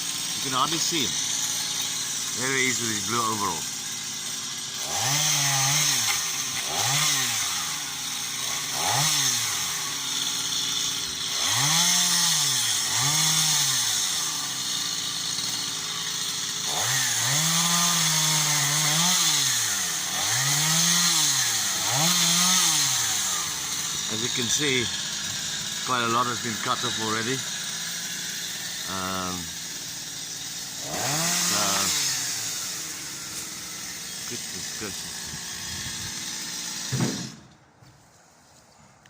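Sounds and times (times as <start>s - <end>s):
chainsaw revving: 0.0s - 37.6s.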